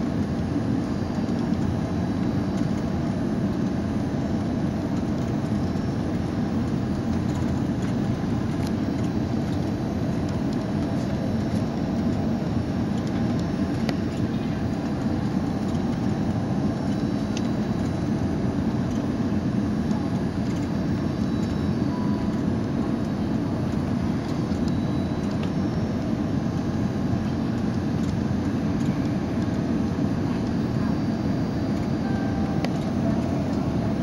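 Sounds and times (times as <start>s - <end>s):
airliner cabin engine drone: 0.0s - 34.0s.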